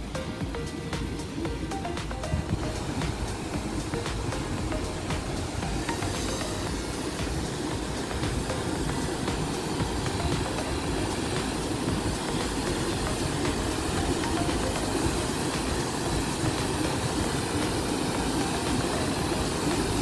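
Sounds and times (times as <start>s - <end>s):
water rushing over lock gates: 1.0s - 20.0s.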